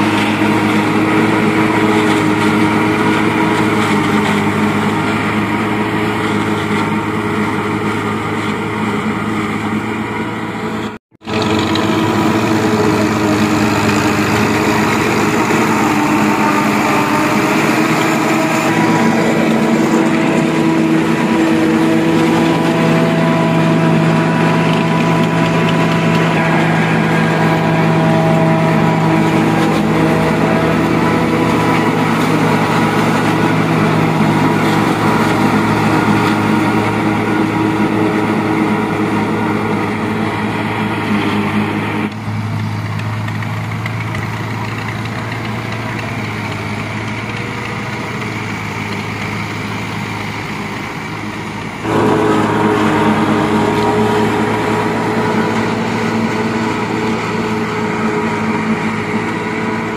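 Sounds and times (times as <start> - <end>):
forage harvester chopping: 0.0 - 59.9
tractor engine under load: 0.0 - 59.9.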